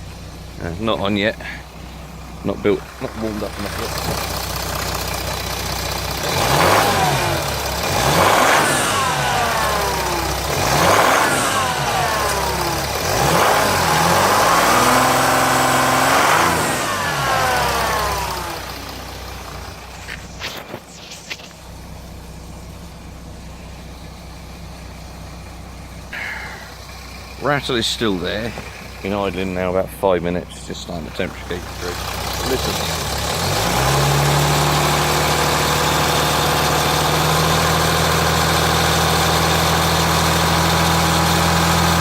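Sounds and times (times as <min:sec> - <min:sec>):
diesel engine revving and idling: 0:00.0 - 0:42.0
engine idle rattle: 0:00.0 - 0:42.0.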